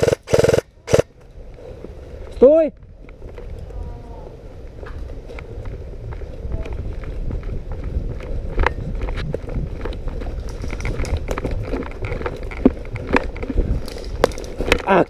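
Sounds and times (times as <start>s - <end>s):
steady low rumble: 0.0s - 14.3s.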